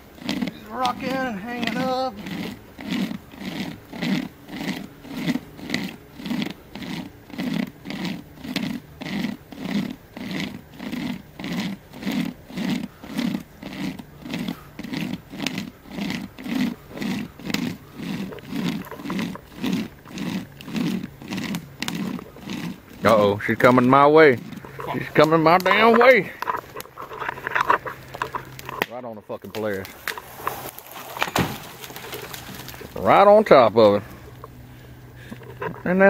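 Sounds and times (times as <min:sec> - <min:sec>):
chain saw rasping through wood: 0:00.0 - 0:36.0.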